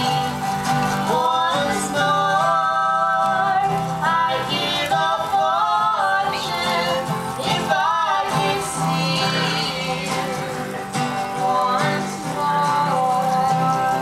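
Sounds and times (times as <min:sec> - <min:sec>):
acoustic guitar: 0:00.0 - 0:14.0
person singing long wavering notes: 0:00.0 - 0:14.0.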